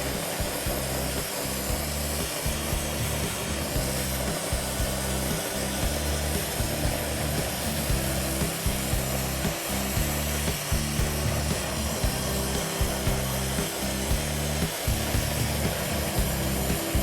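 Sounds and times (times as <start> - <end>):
background music with beat: 0.0 - 17.0
soldering torch hissing: 0.0 - 17.0.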